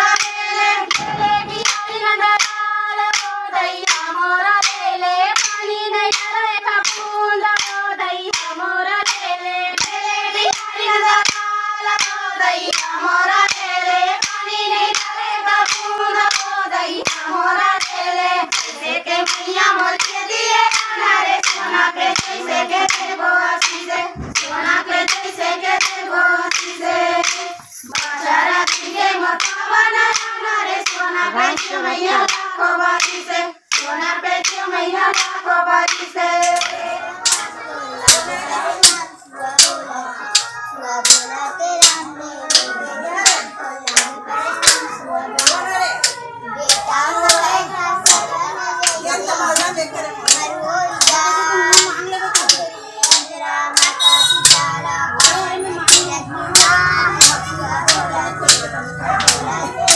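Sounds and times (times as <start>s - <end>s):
women singing folk song: 0.0s - 59.9s
sharp hand claps: 0.1s - 32.4s, 33.0s - 39.0s, 39.6s - 59.9s.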